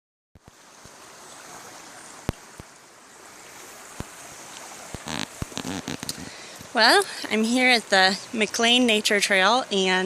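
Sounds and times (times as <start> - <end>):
creek water running: 0.4 - 10.0.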